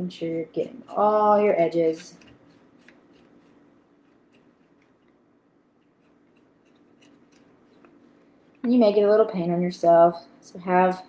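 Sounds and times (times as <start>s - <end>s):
room hum: 0.0s - 11.0s
paintbrush dabbing on paper plate: 0.2s - 9.1s.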